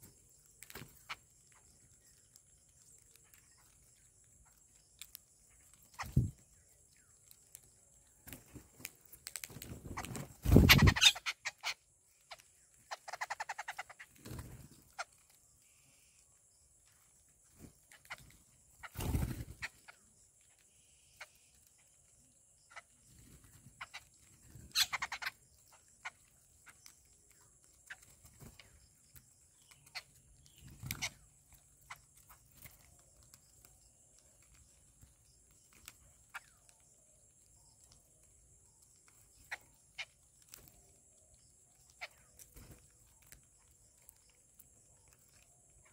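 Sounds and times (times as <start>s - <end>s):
birds pecking on concrete: 0.0s - 45.9s.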